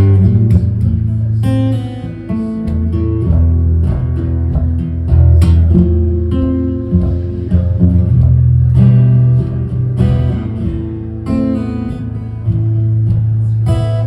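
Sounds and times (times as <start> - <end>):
acoustic guitar strumming chords: 0.0 - 14.0
low bass notes: 0.0 - 14.0.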